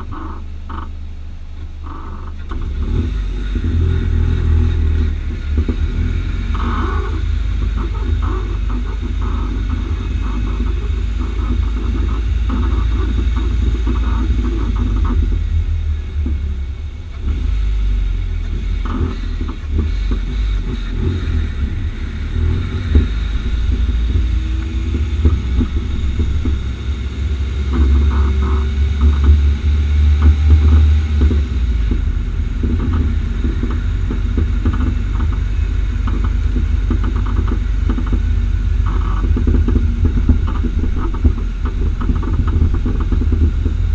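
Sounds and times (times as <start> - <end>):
car engine low rumble: 0.0 - 43.9
suspension pops and creaks: 0.0 - 43.9.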